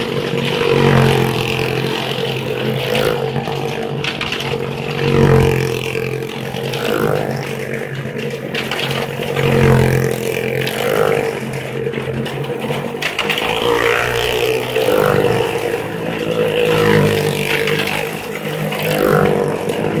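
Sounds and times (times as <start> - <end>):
car and motorcycle engines revving: 0.0 - 20.0.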